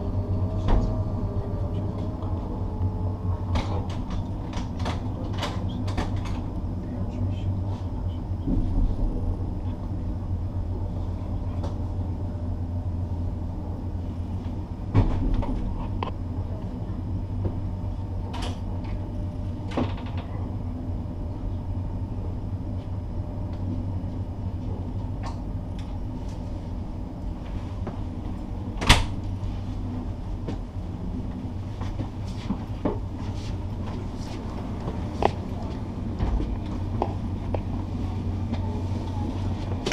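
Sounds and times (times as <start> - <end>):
train carriage rumbling: 0.0 - 39.9.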